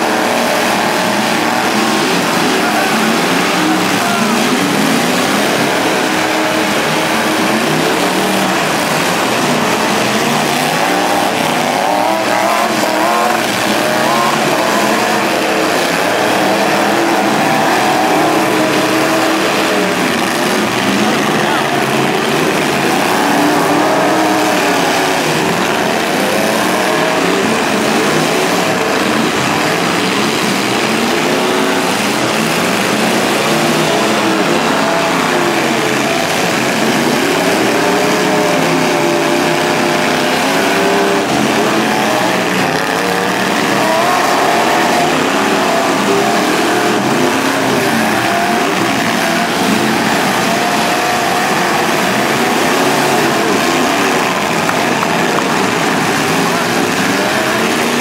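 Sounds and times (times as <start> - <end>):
truck engines revving: 0.0 - 58.0.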